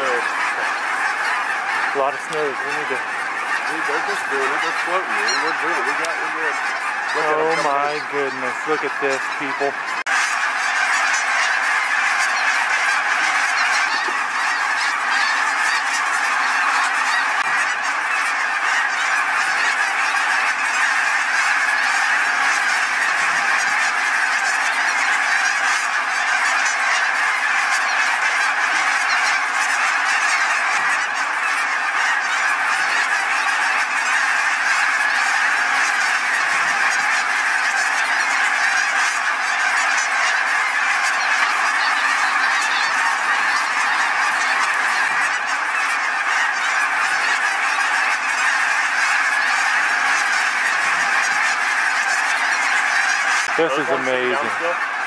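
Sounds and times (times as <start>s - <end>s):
geese honking overhead: 0.0s - 55.0s.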